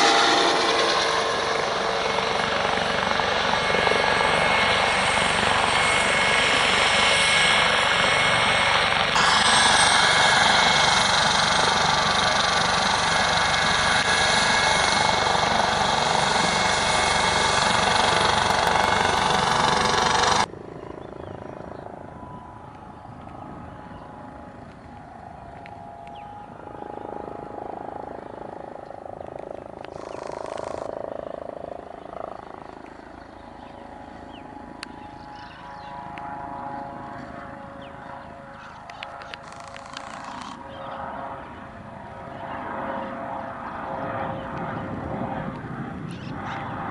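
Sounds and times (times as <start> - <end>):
helicopter rotor and engine noise: 0.0 - 46.9
helicopter turbine whine: 0.0 - 46.9.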